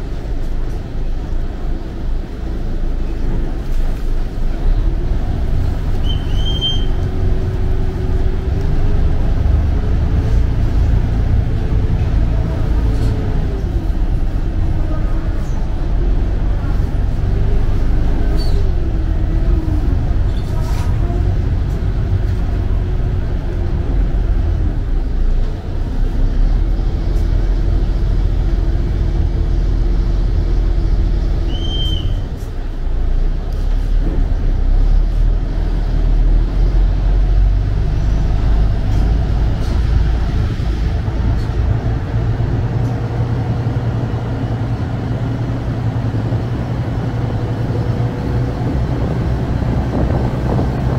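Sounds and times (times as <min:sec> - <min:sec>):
boat engine rumbling: 0:00.0 - 0:50.9.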